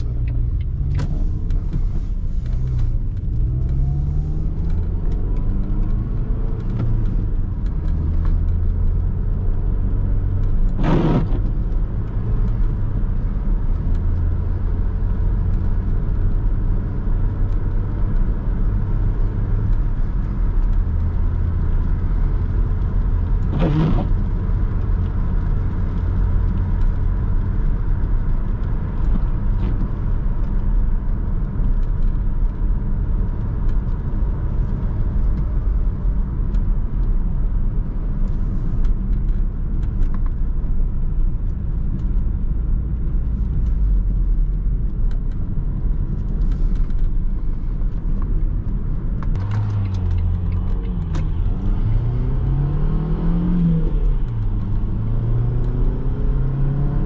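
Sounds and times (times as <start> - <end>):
car engine accelerating: 0.0 - 57.0
road and tyre rumble: 0.0 - 57.0.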